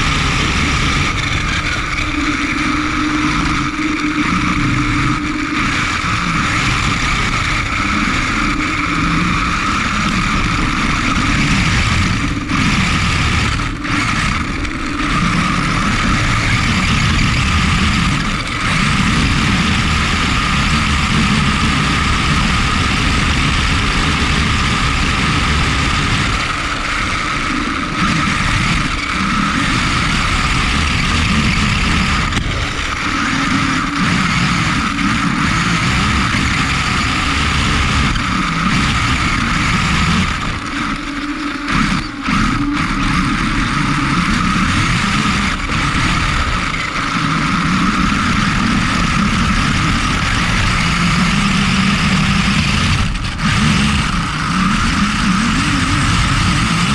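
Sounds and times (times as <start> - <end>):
electric motor whine: 0.0 - 56.9
wind rumble: 0.0 - 56.9.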